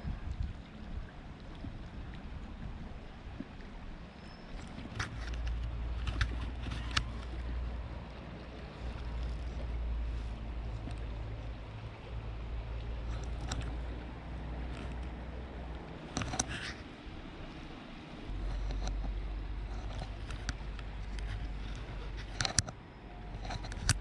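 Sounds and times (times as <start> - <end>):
creek water running: 0.0 - 24.0
wind rumbling on microphone: 0.0 - 24.0.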